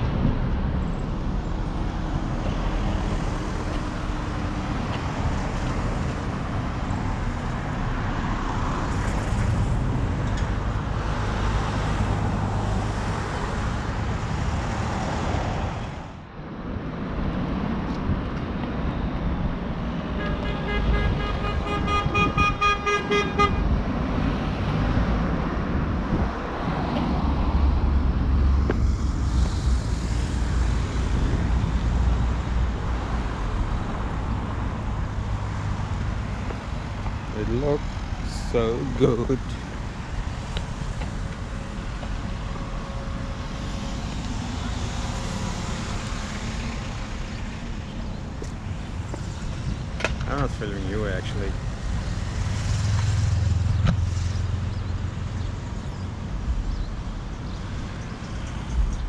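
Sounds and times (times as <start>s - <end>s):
cars driving past: 0.0s - 59.0s.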